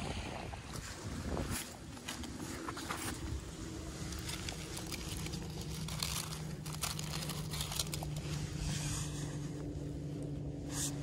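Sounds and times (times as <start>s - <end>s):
leaves and pebbles crunching: 0.0s - 11.0s
low engine hum: 0.0s - 11.0s.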